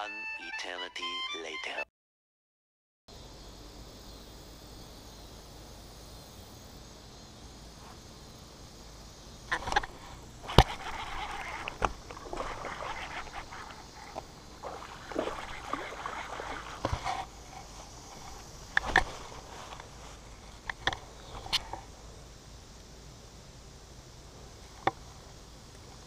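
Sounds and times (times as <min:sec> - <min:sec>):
faint outdoor hiss: 0:03.1 - 0:26.0.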